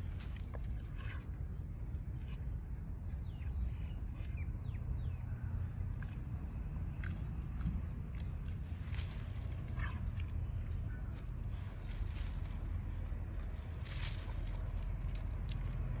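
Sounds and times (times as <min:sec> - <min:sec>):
insects chirping in pulses: 0:00.0 - 0:16.0.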